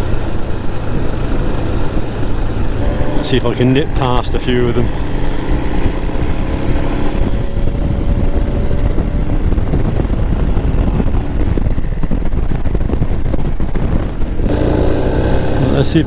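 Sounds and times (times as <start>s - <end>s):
motorcycle engine: 0.0s - 16.0s
wind rumble: 0.0s - 16.0s.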